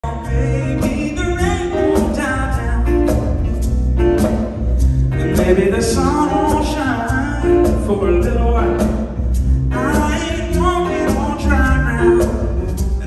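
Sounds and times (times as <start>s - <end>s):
person singing lead melody: 0.0s - 3.5s, 5.1s - 9.0s, 9.7s - 13.0s
acoustic guitars: 0.0s - 13.0s.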